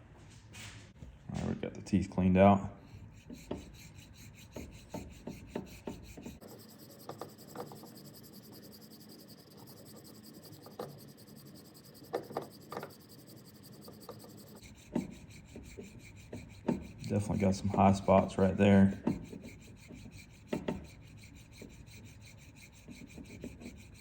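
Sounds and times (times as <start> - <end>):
file scraping over epoxy: 2.1 - 24.0.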